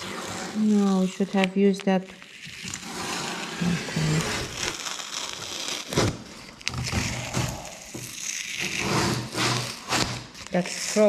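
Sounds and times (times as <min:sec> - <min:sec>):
masking tape crackling: 0:00.0 - 0:11.0.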